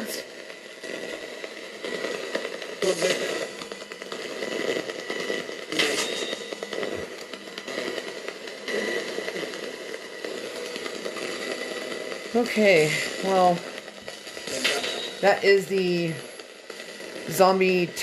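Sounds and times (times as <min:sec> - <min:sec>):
chopped broadcast fragments: 0:00.0 - 0:18.0
crackling radio static: 0:00.0 - 0:18.0.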